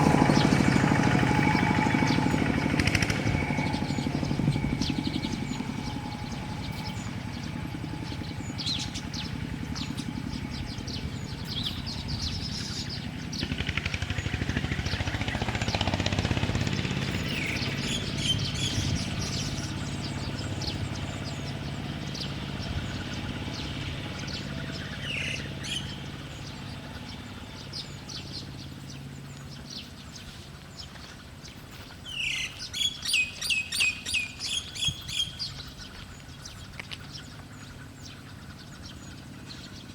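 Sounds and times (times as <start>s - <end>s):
steady low rumble: 0.0s - 32.8s
songbirds chirping: 0.0s - 39.9s.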